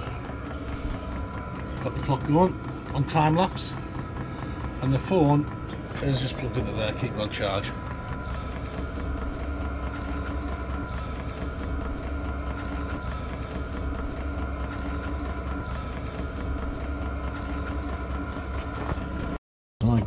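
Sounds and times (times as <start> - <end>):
heater mechanical drone: 0.0 - 20.0.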